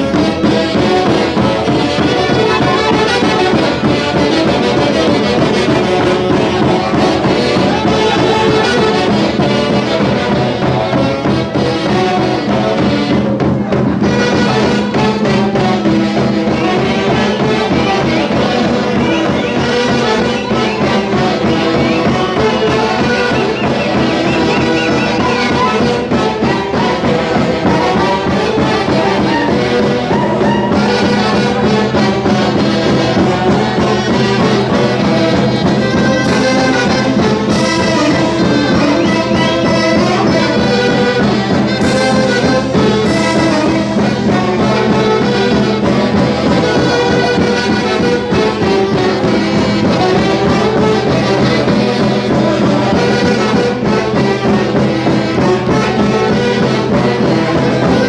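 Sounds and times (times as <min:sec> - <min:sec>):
folk orchestra with wind section: 0:00.0 - 0:58.0.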